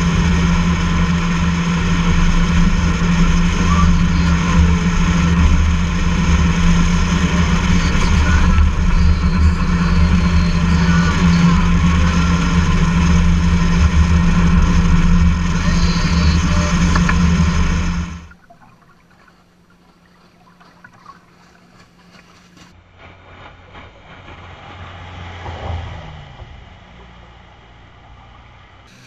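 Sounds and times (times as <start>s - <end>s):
outboard jet motor droning: 0.0s - 29.0s.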